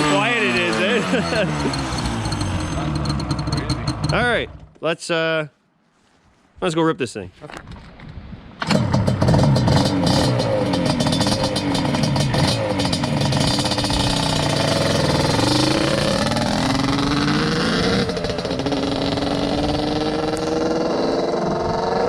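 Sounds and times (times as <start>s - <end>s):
motorcycle engine revving: 0.0s - 4.7s, 8.6s - 22.0s.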